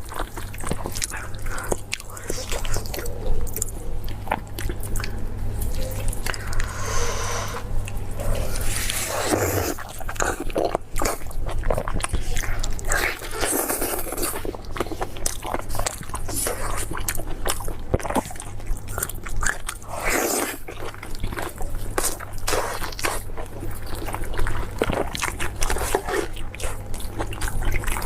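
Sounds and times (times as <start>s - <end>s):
biting and chewing: 0.0s - 28.0s.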